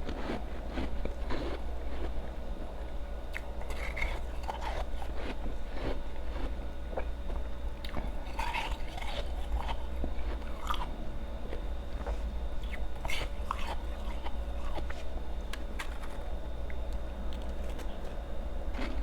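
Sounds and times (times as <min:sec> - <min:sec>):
person chewing ice: 0:00.0 - 0:19.0
steady low hum: 0:00.0 - 0:19.0.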